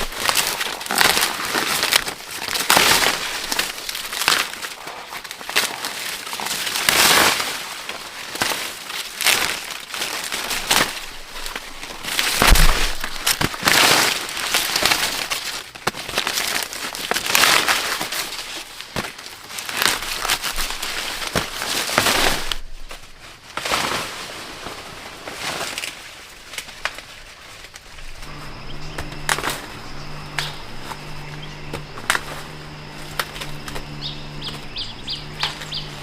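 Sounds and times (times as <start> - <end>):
dry plant matter rustling: 0.0 - 36.0.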